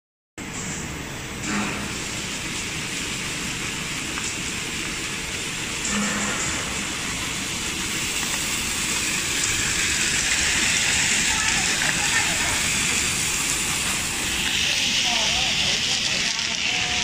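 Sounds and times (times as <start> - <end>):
slitting machine hissing: 1.4 - 3.4, 4.3 - 17.0.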